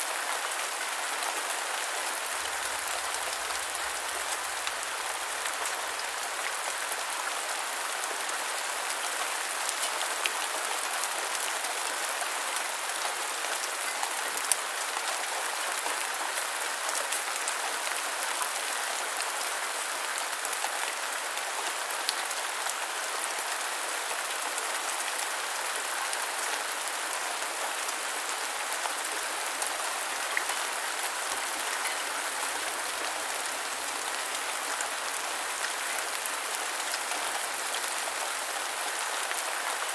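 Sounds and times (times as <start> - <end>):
light rain on hard surface: 0.0 - 39.9.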